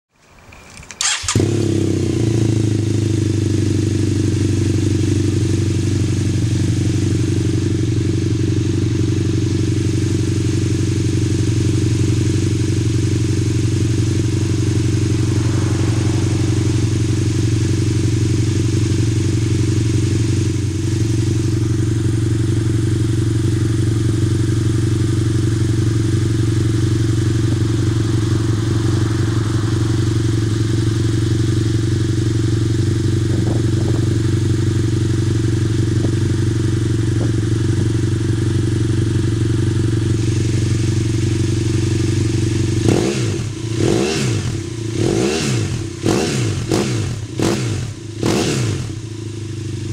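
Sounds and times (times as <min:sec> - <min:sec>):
motorcycle engine starting and idling: 0:00.2 - 0:49.9.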